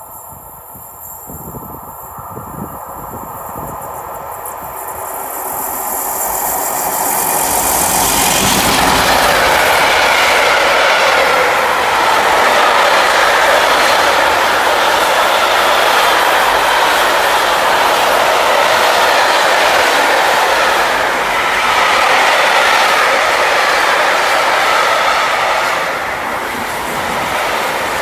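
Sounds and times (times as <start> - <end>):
freight train passing: 0.0 - 28.0.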